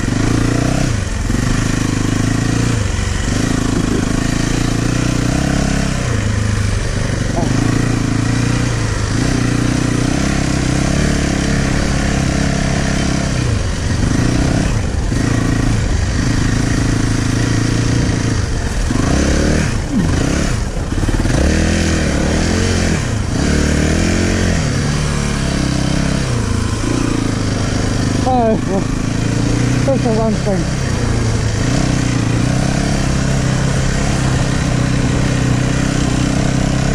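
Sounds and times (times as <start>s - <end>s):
motocross bike engine revving: 0.0s - 36.9s.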